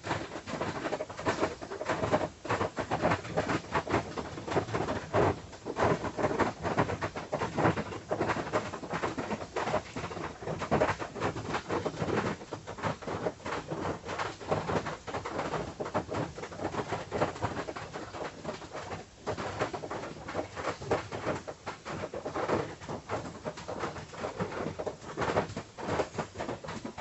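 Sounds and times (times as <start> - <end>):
rain drumming on a tin roof: 0.0 - 27.0.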